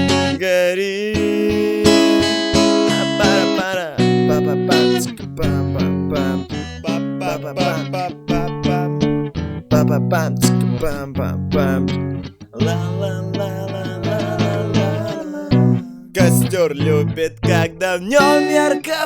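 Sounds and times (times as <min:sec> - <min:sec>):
strummed guitar chords: 0:00.0 - 0:19.0.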